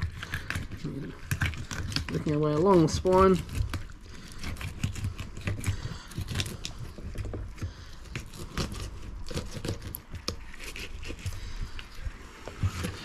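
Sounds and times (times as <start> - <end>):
knife scraping fish backbone: 0.0 - 13.0.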